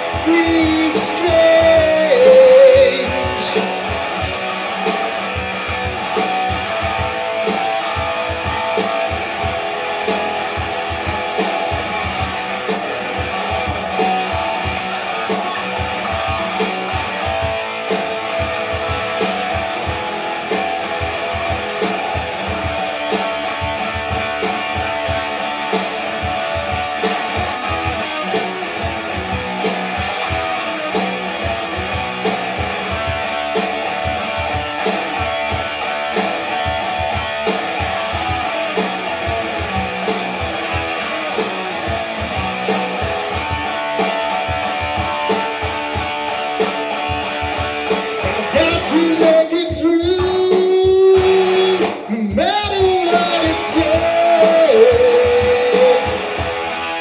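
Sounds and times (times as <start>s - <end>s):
electric guitars: 0.0s - 57.0s
steady drum beat: 0.0s - 57.0s.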